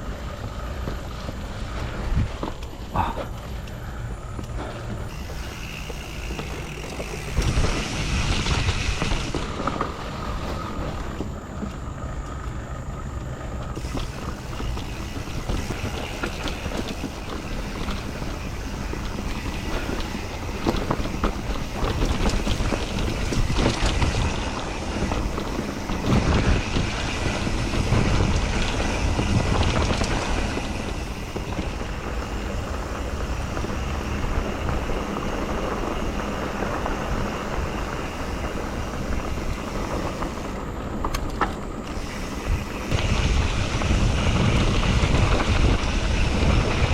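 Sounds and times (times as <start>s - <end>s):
bike chain and frame rattling: 0.0s - 46.9s
bike tyre noise: 0.0s - 46.9s
wind rushing over microphone: 0.0s - 46.9s.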